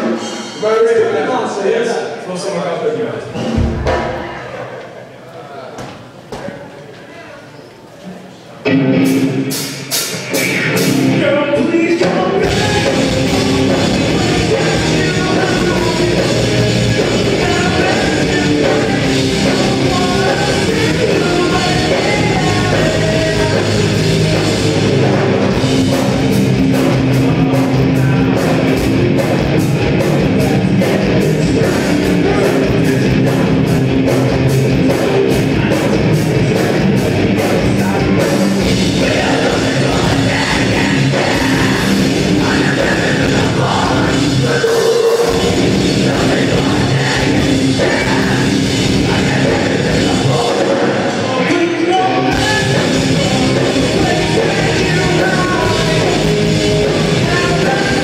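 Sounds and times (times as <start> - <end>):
live heavy rock band: 8.6 - 58.0.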